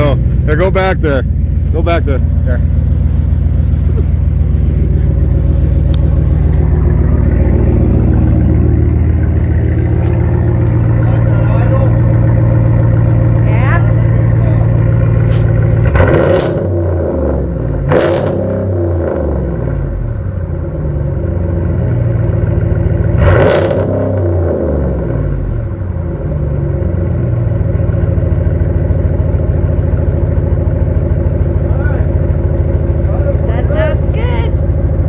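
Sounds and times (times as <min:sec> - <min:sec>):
car engine idling: 0:00.0 - 0:35.0
car engine revving: 0:00.0 - 0:35.0.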